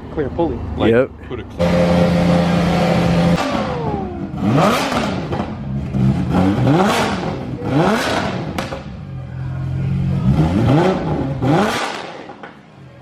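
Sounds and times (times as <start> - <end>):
car engine revving: 1.6 - 12.5.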